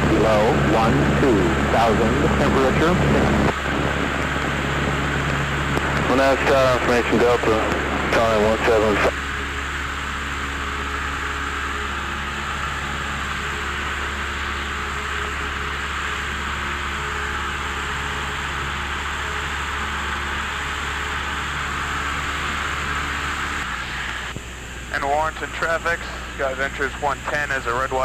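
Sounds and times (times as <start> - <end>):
airplane engine droning: 0.0 - 28.0
faint steady hums: 0.0 - 28.0.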